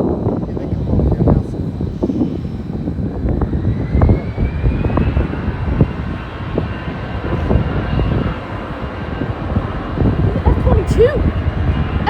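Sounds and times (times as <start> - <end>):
high rising whine: 0.0 - 12.0
jet engine rumble: 0.0 - 12.0.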